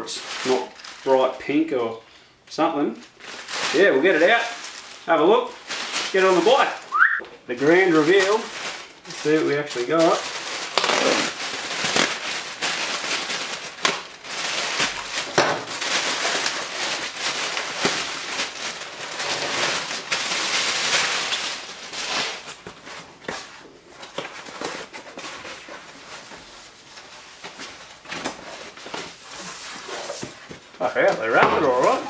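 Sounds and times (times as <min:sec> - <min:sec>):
plastic bag and foam crinkling: 0:00.0 - 0:02.1, 0:02.7 - 0:32.0.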